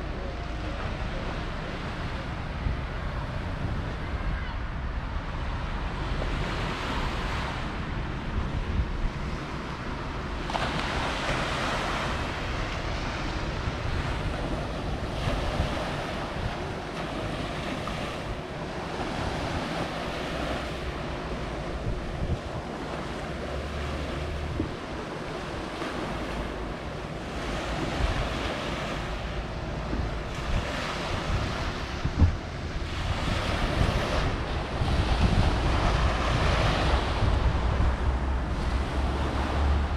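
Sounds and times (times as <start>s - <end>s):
wind rumbling on microphone: 0.0s - 39.9s
waves on a pebble beach: 5.2s - 39.9s.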